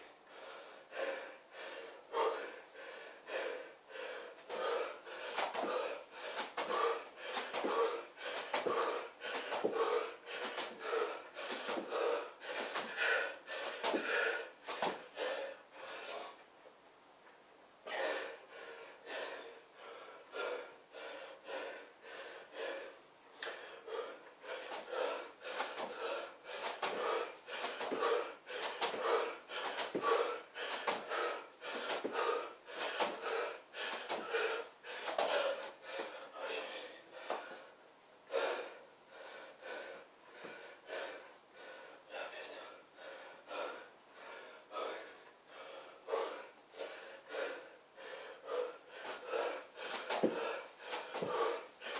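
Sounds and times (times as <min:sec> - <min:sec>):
man breathing hard: 0:00.0 - 0:16.4, 0:17.8 - 0:51.9.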